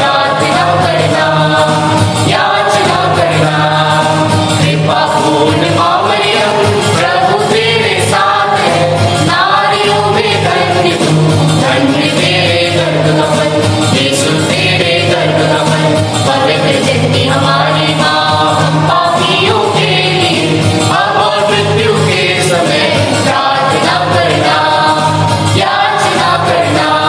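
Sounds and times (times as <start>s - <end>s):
voices singing a hymn: 0.0s - 27.0s.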